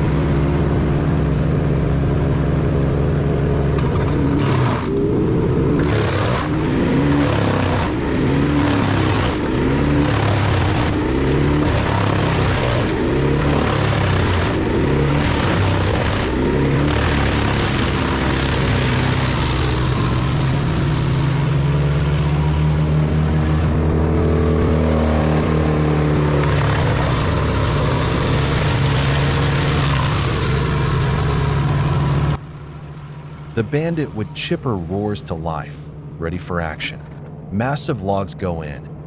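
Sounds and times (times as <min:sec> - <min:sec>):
wood chipper engine under load: 0:00.0 - 0:34.2.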